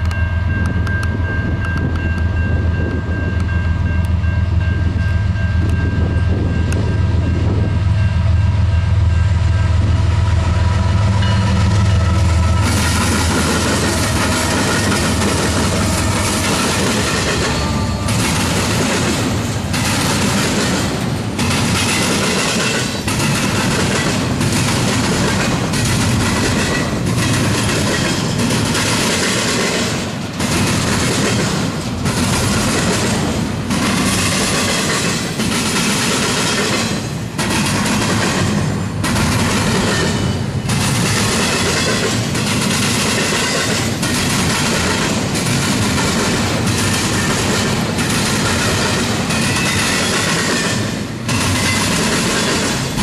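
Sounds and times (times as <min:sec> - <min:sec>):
freight train wheels rumbling on rail: 0:00.0 - 0:53.0.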